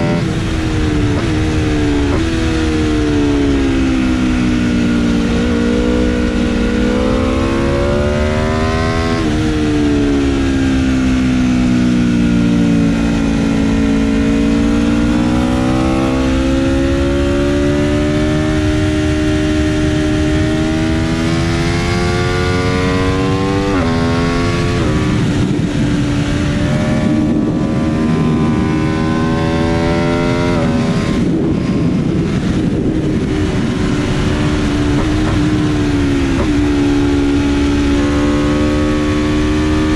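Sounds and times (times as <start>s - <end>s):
motorcycle engine at racing speed: 0.0s - 39.9s
wind rush: 0.0s - 39.9s.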